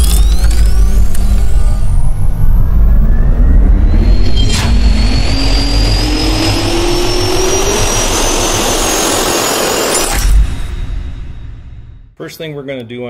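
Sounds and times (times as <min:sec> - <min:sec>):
jet turbine spooling up: 0:00.0 - 0:12.0.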